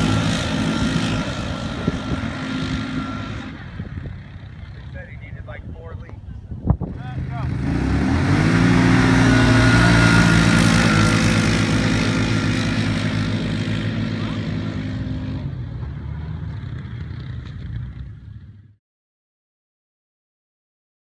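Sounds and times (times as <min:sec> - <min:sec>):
atv engines accelerating hard: 0:00.0 - 0:18.8.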